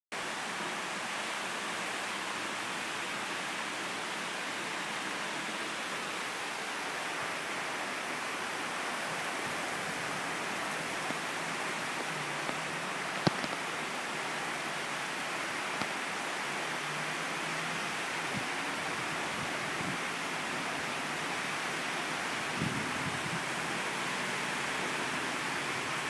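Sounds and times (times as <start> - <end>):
heavy rain pouring: 0.2 - 26.0.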